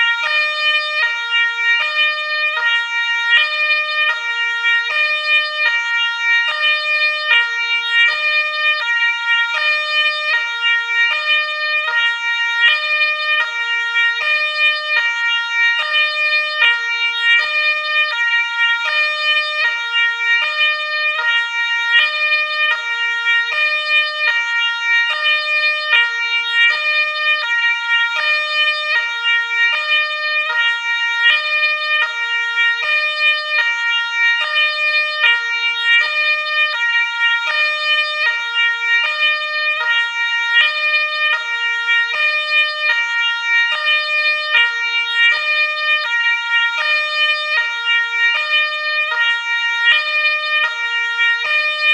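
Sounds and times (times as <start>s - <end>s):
two-tone ambulance siren: 0.0s - 51.9s.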